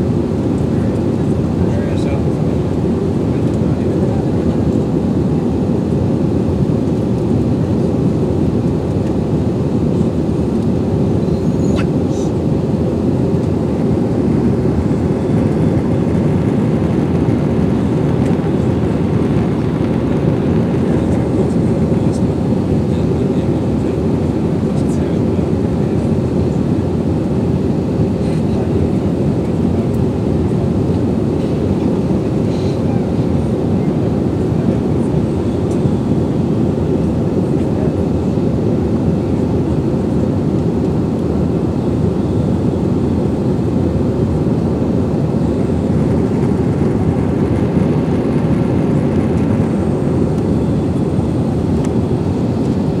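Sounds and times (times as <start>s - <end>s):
jet cabin engine drone: 0.0s - 53.0s.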